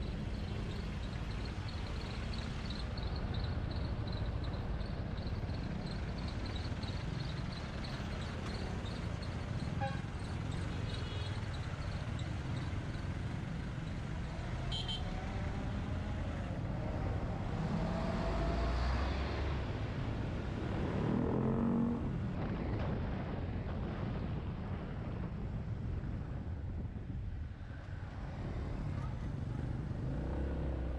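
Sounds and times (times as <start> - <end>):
road and wind noise: 0.0 - 30.9.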